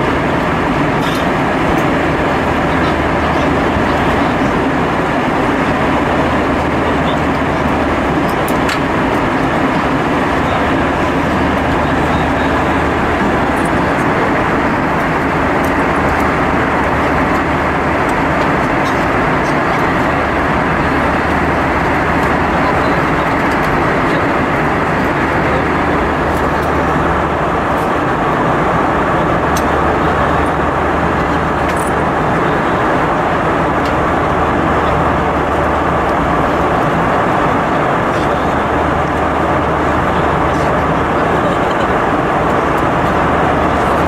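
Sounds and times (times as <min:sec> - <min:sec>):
airplane cabin airflow and engines: 0:00.0 - 0:44.0
steady low hum: 0:00.0 - 0:44.0.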